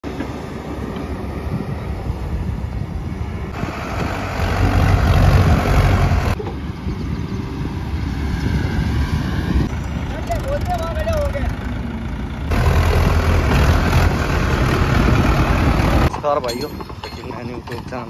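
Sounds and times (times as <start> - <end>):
excavator diesel engine: 0.1 - 18.0
tractor diesel engine: 0.1 - 18.0.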